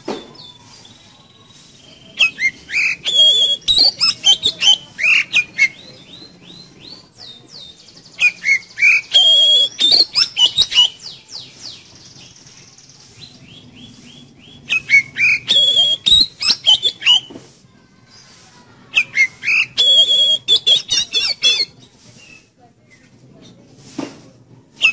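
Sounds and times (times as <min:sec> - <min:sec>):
bird singing whistles: 0:00.0 - 0:12.6, 0:13.2 - 0:17.3, 0:19.0 - 0:23.1.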